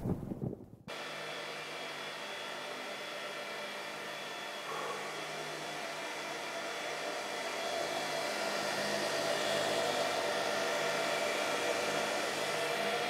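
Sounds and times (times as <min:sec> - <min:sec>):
cooling fans whirring: 0:00.1 - 0:13.0.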